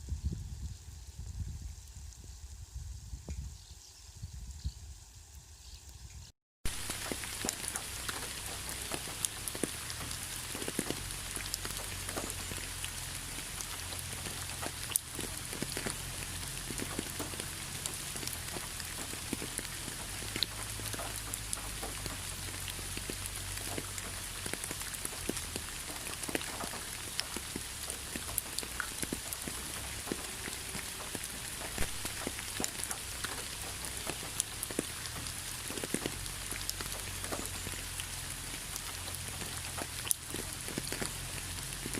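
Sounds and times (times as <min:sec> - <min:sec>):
rain falling: 0:06.6 - 0:41.9
raindrops ticking on a surface: 0:06.6 - 0:41.9.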